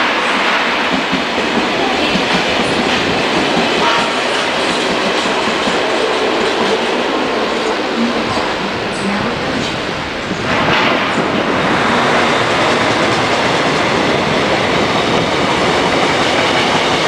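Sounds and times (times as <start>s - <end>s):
high-speed train rushing past: 0.0s - 17.0s.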